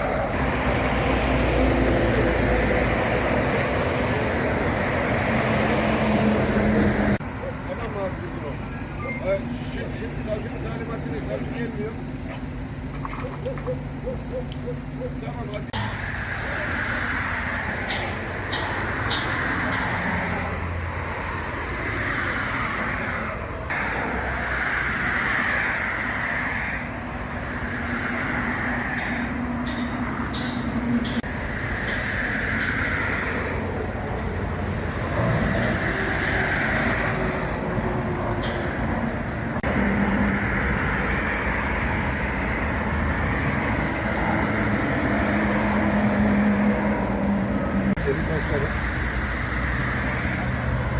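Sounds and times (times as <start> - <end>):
road traffic passing: 0.0 - 50.9.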